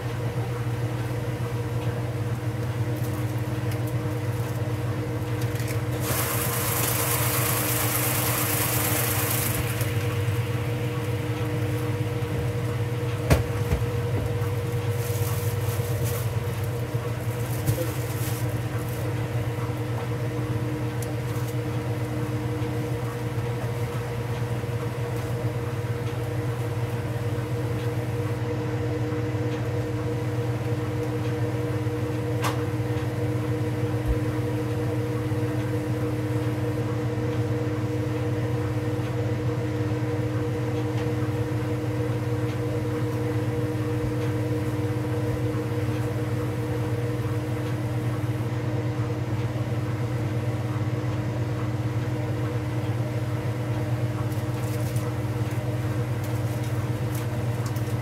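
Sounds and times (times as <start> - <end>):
washing machine spinning hum: 0.0 - 58.0.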